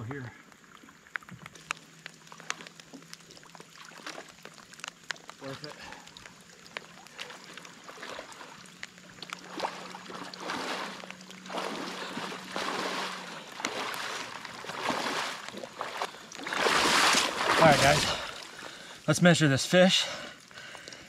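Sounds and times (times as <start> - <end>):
person wading through water: 0.5 - 19.1.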